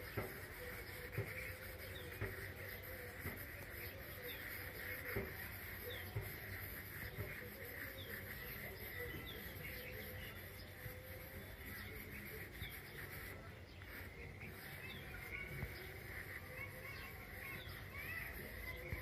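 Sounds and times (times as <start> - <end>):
pencil scratching on paper: 0.0 - 19.0.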